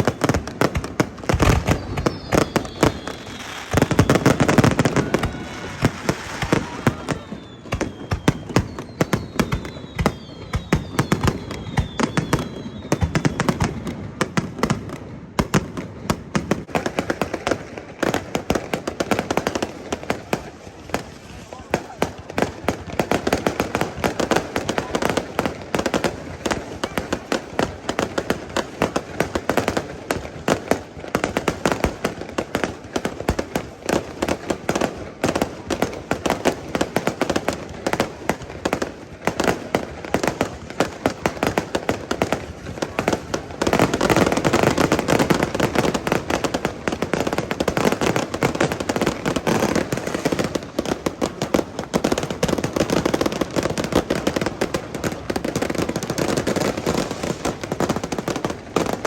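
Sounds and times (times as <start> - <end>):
aerial fireworks bursting: 0.0 - 59.0.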